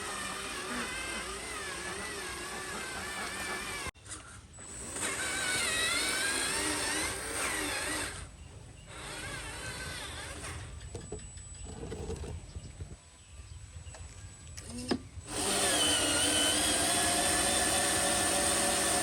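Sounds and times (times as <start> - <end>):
small electric motors whining: 0.0 - 12.6, 14.3 - 19.0.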